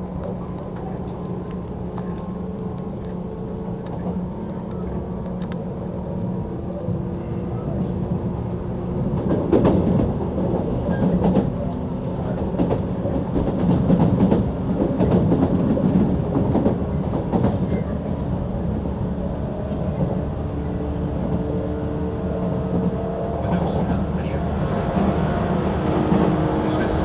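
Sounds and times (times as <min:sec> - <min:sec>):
train rumble and hum: 0:00.0 - 0:27.0.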